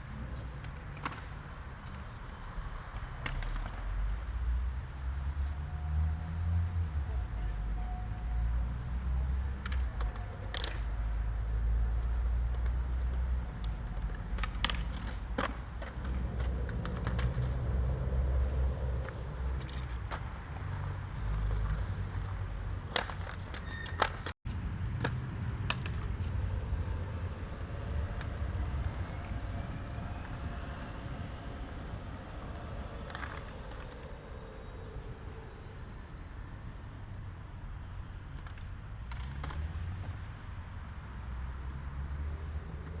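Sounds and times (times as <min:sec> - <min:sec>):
low traffic rumble: 0:00.0 - 0:43.0.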